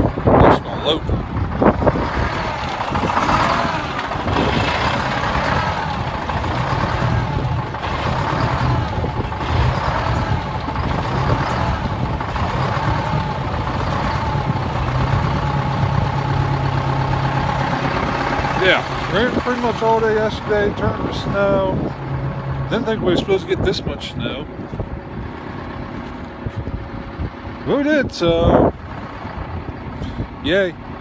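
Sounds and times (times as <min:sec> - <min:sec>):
vehicle engine droning: 0:00.0 - 0:31.0.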